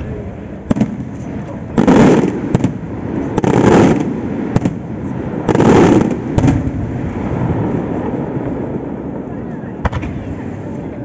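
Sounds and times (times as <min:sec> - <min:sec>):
fireworks booming: 0:00.0 - 0:11.0
fireworks cracks: 0:00.0 - 0:11.0.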